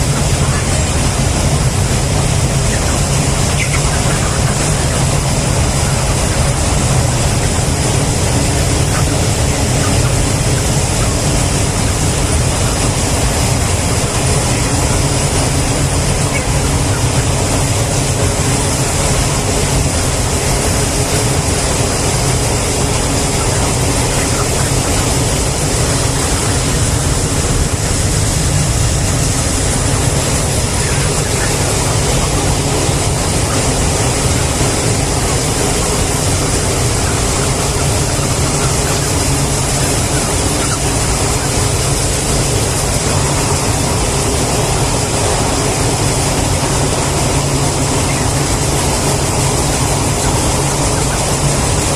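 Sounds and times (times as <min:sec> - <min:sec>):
steady machine noise: 0:00.0 - 0:51.9.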